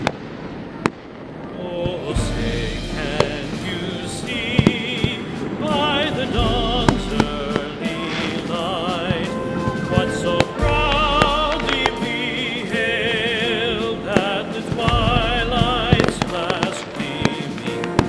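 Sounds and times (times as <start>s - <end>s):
fireworks bangs: 0.0s - 18.0s
music with wavering singing voice: 1.6s - 18.0s
deep firework booms: 2.1s - 18.0s.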